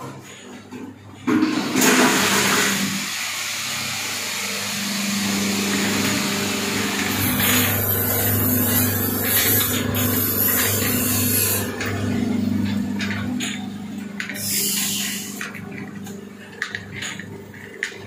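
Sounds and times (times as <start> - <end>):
shredder motor hum: 1.6 - 18.0.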